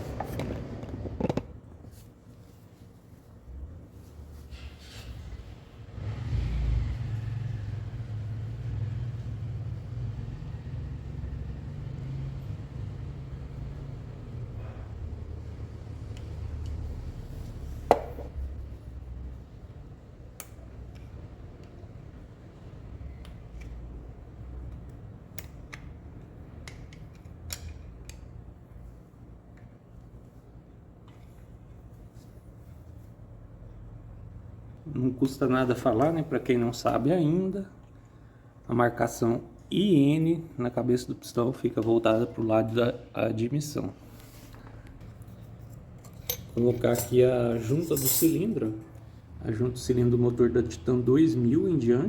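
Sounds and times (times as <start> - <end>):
low mechanical rumble: 0.0 - 47.9.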